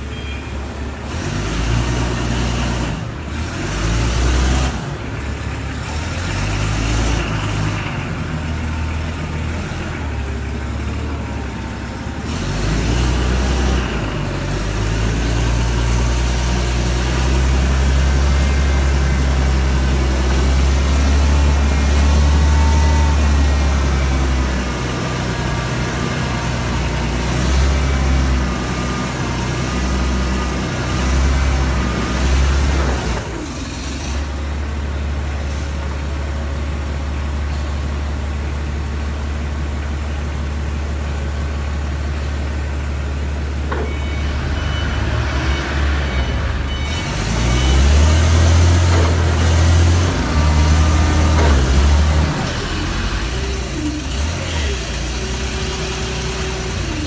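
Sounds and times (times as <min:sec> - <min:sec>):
forklift diesel engine running: 0:00.0 - 0:57.0.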